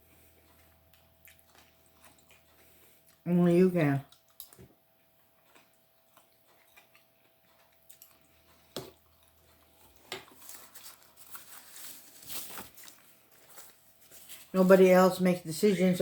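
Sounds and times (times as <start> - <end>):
crunchy chewing: 0.0 - 3.3, 4.0 - 14.5
person chewing: 0.0 - 3.3, 4.0 - 14.5.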